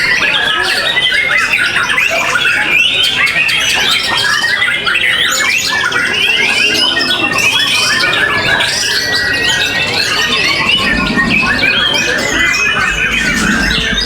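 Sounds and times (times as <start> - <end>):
songbirds chorus: 0.0 - 14.0.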